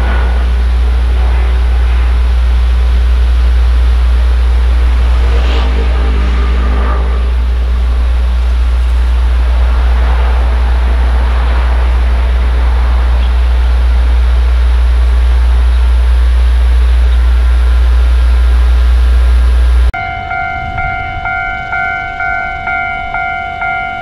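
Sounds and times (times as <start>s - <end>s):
vehicle rumble with hiss: 0.0s - 19.9s.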